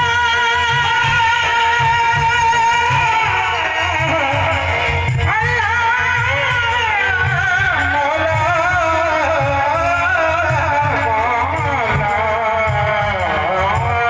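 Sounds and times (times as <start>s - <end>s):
devotional music over sound system: 0.0s - 14.0s
steady repeating drum beat: 0.0s - 14.0s.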